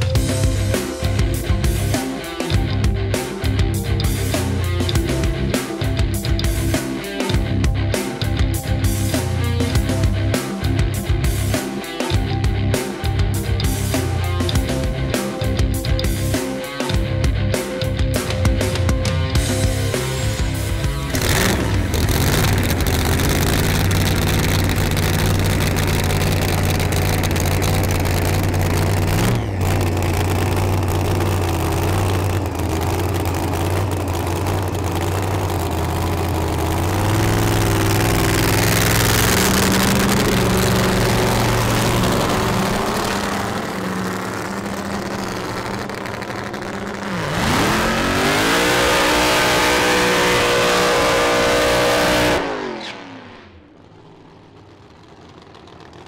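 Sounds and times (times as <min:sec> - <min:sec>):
drag car engine revving: 0:00.0 - 0:56.0.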